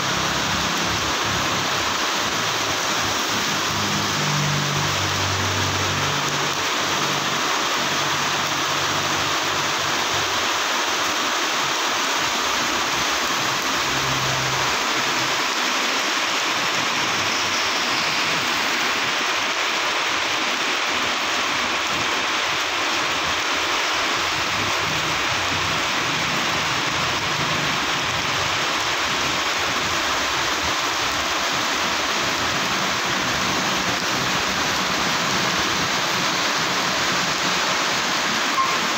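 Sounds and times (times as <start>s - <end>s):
heavy rain splashing on paving: 0.0s - 38.9s
low rumble of road traffic: 0.0s - 38.9s.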